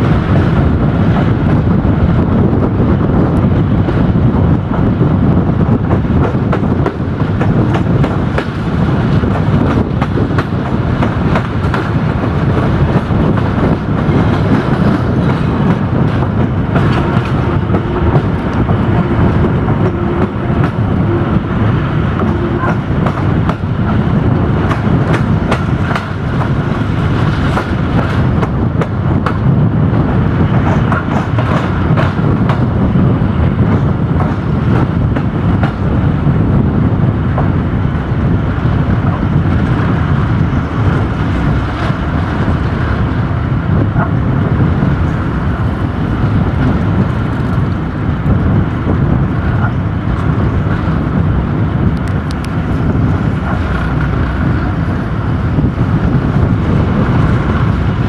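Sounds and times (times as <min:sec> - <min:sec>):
rail joint clicks: 0:00.0 - 0:58.0
railcar wheels rumbling: 0:00.0 - 0:58.0.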